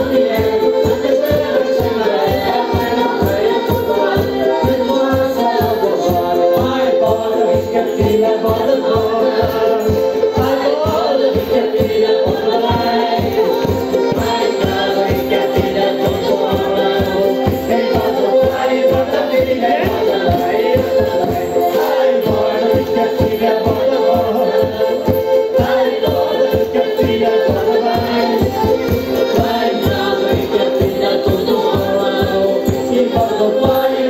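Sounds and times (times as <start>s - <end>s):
voices singing together: 0.0s - 34.0s.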